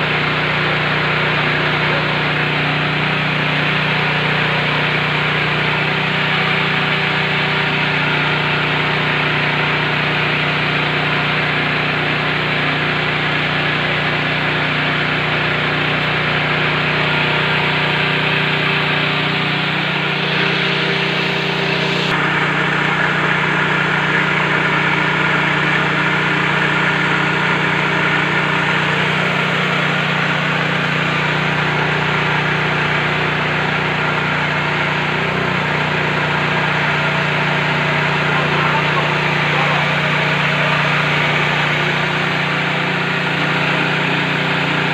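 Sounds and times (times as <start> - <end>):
grain rushing through machine: 0.0 - 44.9
rice mill machine hum: 0.0 - 44.9.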